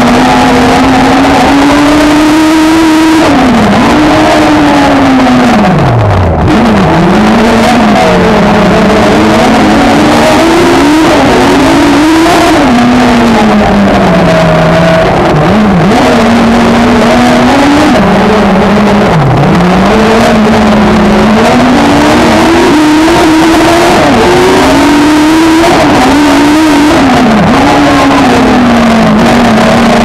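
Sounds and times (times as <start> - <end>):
race car engine running hard: 0.0 - 30.0.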